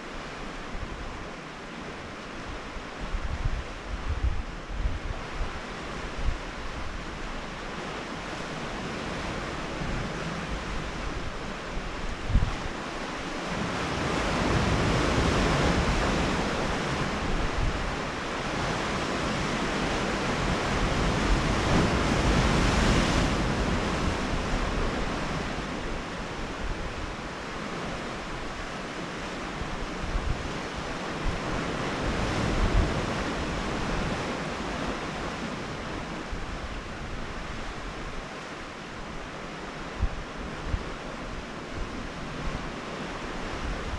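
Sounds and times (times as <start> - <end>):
wind buffeting microphone: 2.4 - 38.4, 39.0 - 43.9
waves breaking on rocky shore: 4.7 - 43.9.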